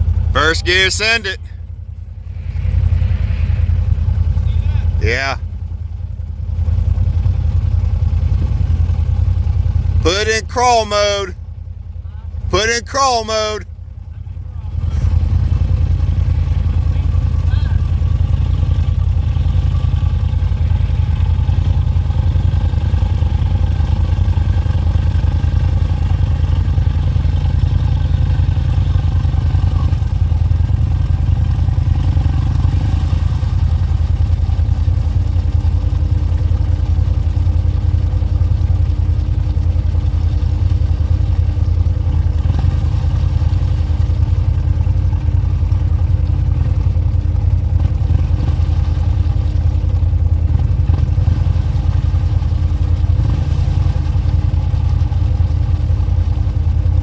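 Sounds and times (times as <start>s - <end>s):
atv engine running at low revs: 0.0s - 57.0s.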